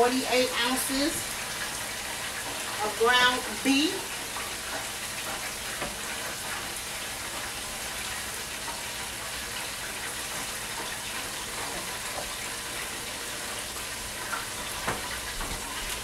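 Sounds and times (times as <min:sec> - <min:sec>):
vegetables sizzling in a pot: 0:00.0 - 0:16.0
water boiling in a pot: 0:00.0 - 0:16.0.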